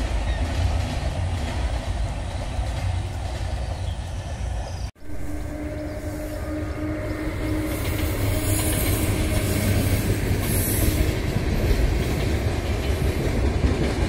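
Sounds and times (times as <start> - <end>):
train wheels clickety-clack: 0.0 - 4.9, 7.3 - 14.0
faint locomotive hum: 0.0 - 14.0.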